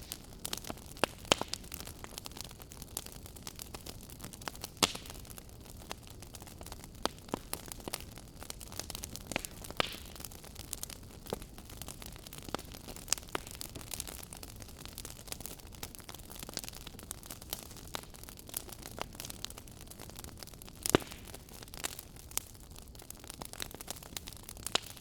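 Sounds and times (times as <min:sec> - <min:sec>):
firewood crackling and popping: 0:00.0 - 0:25.0.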